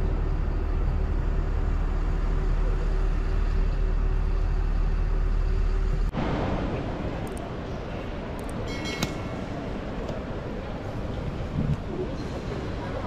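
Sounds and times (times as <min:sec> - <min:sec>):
bus engine idling: 0:00.0 - 0:13.0
murmur of terminal crowd: 0:00.0 - 0:13.0.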